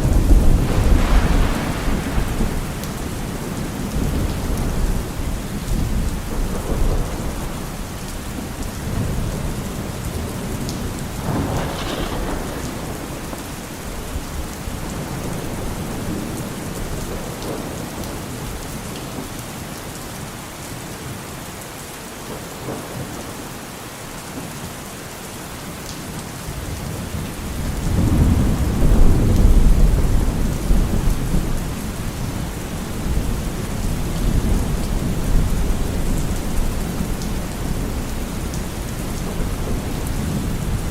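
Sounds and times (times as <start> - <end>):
rolling thunder: 0.0 - 18.6, 26.7 - 40.9
steady rain: 0.0 - 40.9.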